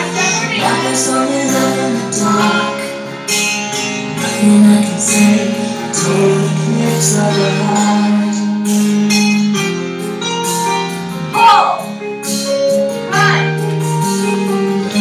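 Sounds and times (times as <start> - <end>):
power ballad music: 0.0 - 15.0.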